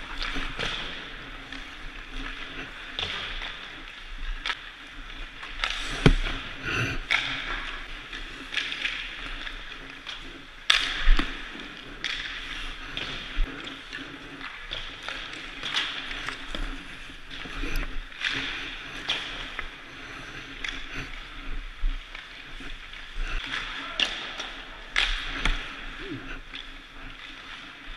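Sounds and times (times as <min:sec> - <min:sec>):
skate blades scraping ice: 0:00.0 - 0:27.9
sticks and pucks clacking: 0:00.0 - 0:27.9.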